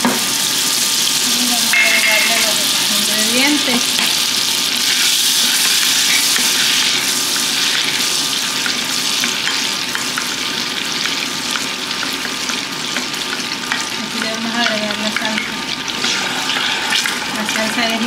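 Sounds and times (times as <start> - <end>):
butter sizzling in a saucepan: 0.0 - 18.0.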